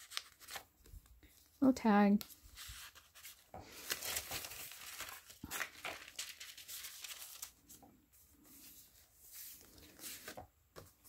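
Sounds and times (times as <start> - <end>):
paper rustling and crinkling: 0.0 - 1.6, 2.2 - 11.0.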